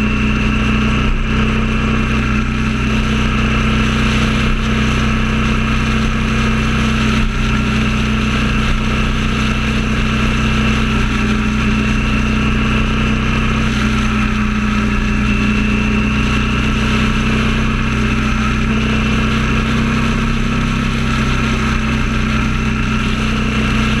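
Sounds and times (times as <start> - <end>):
motorcycle engine drone: 0.0 - 24.0
wind and road noise: 0.0 - 24.0.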